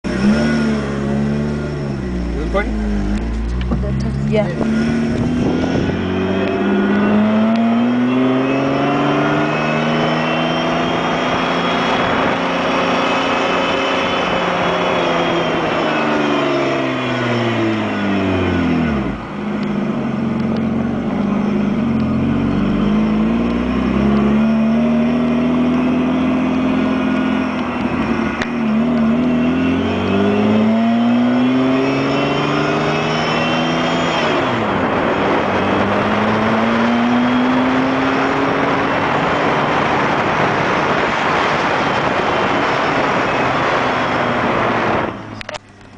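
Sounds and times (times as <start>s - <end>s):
car engine running with a whine: 0.0s - 45.9s.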